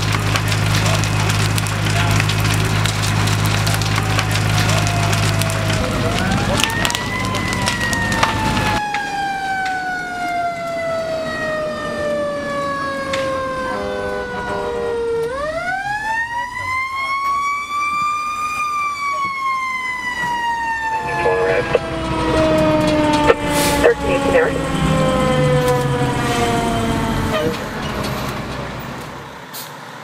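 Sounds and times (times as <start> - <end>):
fire engine siren wailing: 0.0 - 29.0
burning building crackling: 0.0 - 29.3.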